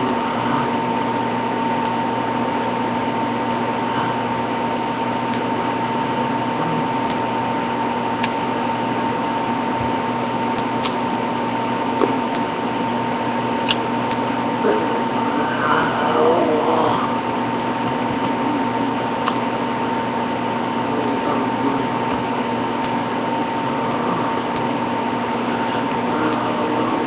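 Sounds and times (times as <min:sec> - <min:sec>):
room tone hiss and hum: 0:00.0 - 0:27.0
thin whine: 0:00.0 - 0:27.0.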